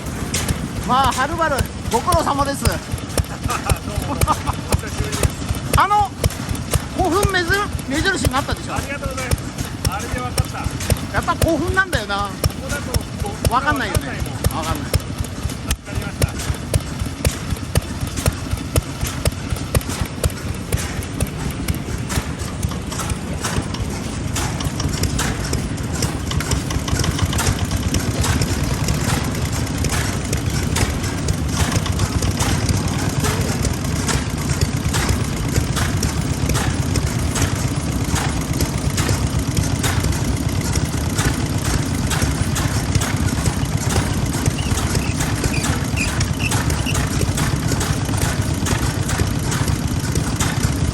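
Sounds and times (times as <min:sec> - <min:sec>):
stationary engine knocking: 0:00.0 - 0:50.9.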